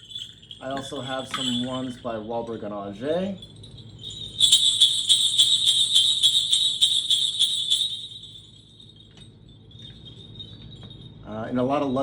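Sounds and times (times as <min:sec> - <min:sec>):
sleigh bells jingling: 0:00.0 - 0:12.0.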